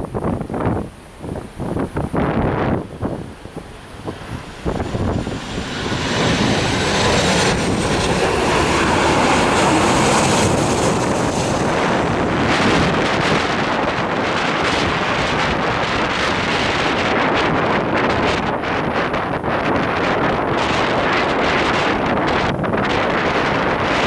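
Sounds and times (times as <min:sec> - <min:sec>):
jet airliner engine noise: 0:00.0 - 0:24.0
wind buffeting microphone: 0:00.0 - 0:24.0.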